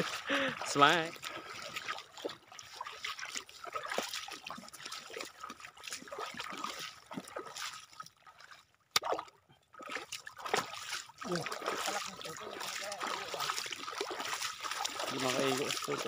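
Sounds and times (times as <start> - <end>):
footsteps wading in shallow water: 0.0 - 16.0
water trickling: 0.0 - 16.0.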